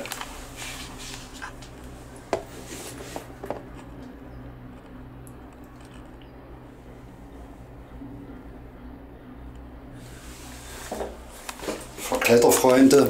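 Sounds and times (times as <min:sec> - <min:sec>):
cable car gondola hum: 0:00.0 - 0:13.0.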